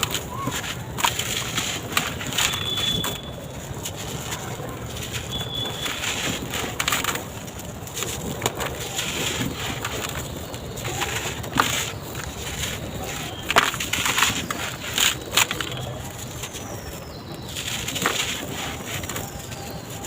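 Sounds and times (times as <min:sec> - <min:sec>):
blocks crumbling and crunching: 0:00.0 - 0:20.0.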